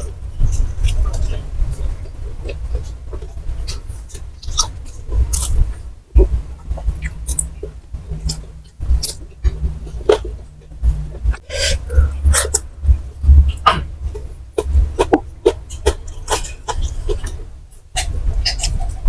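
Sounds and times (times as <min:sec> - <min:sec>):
wet mouth clicks: 0:02.4 - 0:19.0.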